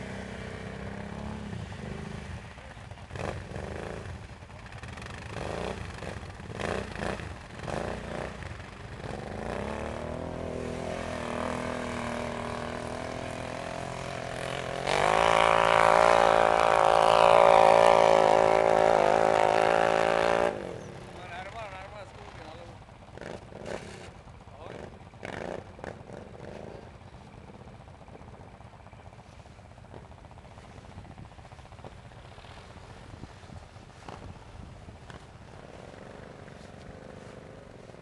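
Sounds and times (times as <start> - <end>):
atv engine revving: 0.0 - 38.0
loud engine running hard: 0.0 - 38.0.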